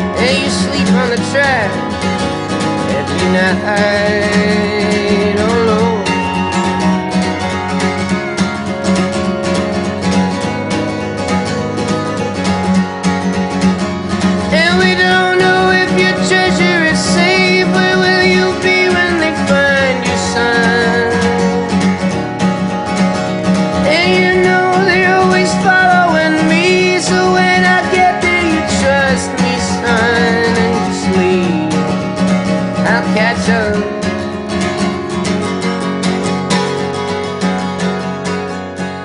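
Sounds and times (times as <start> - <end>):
guitar-led song: 0.0 - 39.0.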